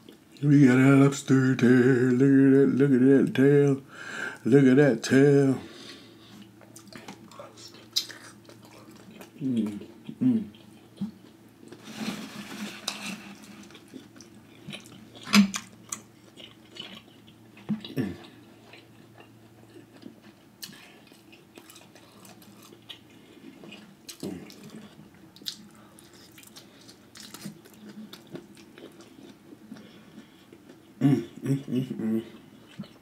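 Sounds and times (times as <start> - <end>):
faint low hum: 0.0 - 33.0
person chewing food: 5.8 - 33.0.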